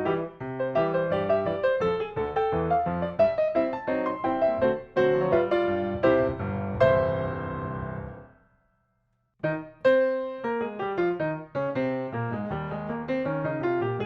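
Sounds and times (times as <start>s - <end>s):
piano music: 0.0s - 8.4s, 9.4s - 14.0s.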